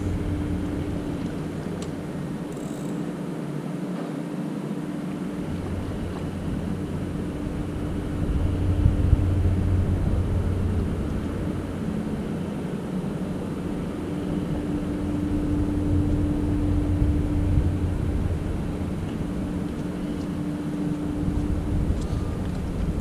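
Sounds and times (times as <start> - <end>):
constant tone: 0.0 - 23.0
low engine drone: 0.0 - 23.0.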